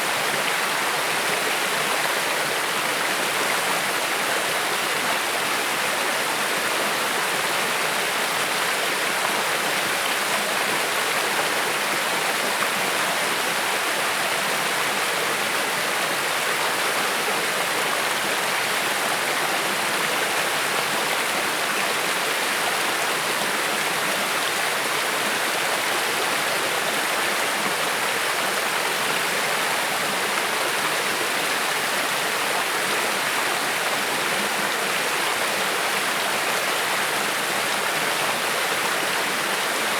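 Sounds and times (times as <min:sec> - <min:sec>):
creek water flowing over rocks: 0:00.0 - 0:39.9.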